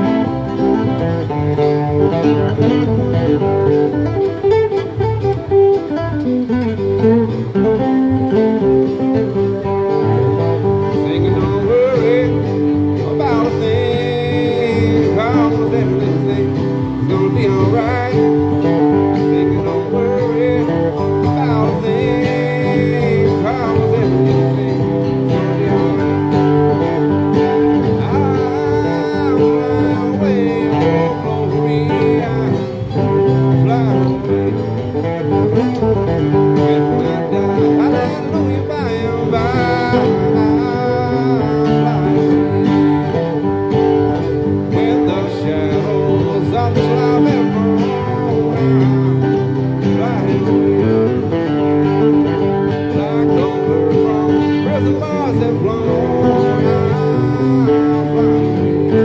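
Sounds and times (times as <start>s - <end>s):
acoustic guitar chords: 0.0s - 59.0s.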